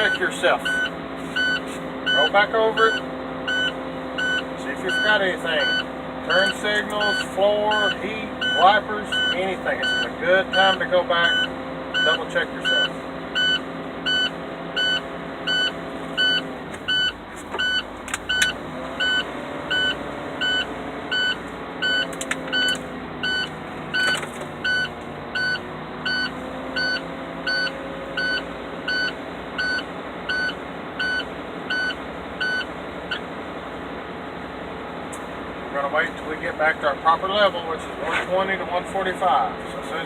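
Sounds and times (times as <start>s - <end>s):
warning buzzer beeping: 0.0s - 33.2s
diesel engine idling: 0.0s - 40.0s.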